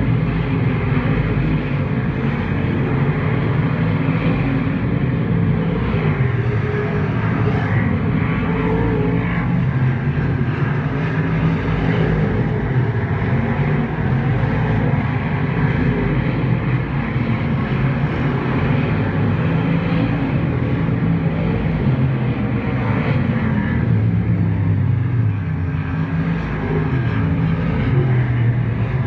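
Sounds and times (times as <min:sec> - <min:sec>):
race car engines droning: 0:00.0 - 0:29.0.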